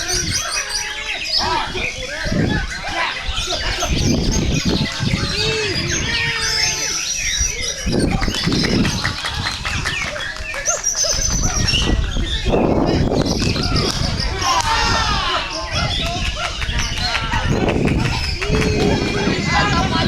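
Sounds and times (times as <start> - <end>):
birds singing: 0.0 - 20.0.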